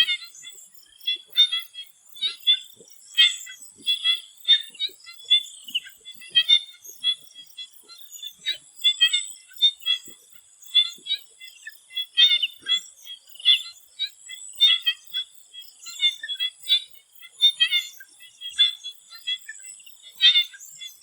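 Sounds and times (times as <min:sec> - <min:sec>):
frogs chirping chorus: 0:00.0 - 0:21.0.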